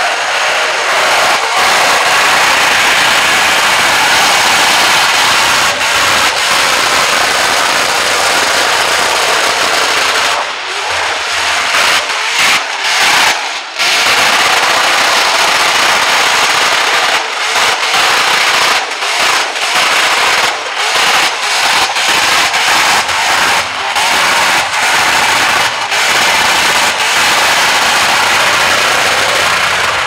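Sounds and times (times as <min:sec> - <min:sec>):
engine revving hard: 0:00.0 - 0:30.0
wheel rim grinding on concrete: 0:00.0 - 0:30.0.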